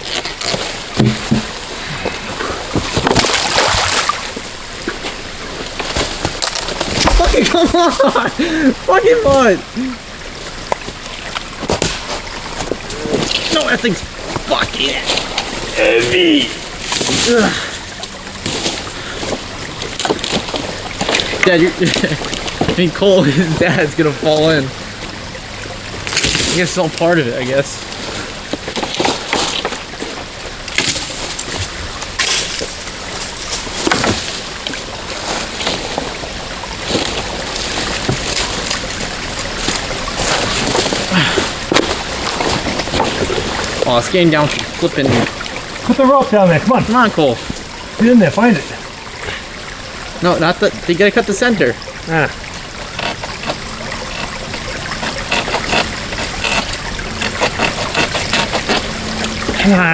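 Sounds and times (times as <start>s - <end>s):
water sloshing and splashing: 0.0s - 59.9s.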